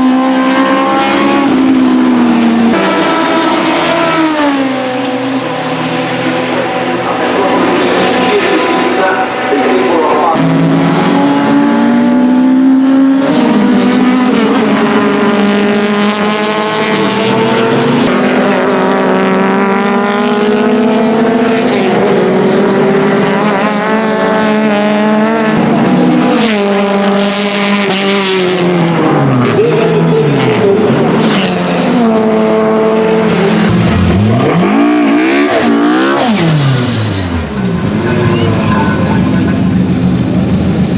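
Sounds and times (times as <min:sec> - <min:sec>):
racing car engine at high revs: 0:00.0 - 0:40.9.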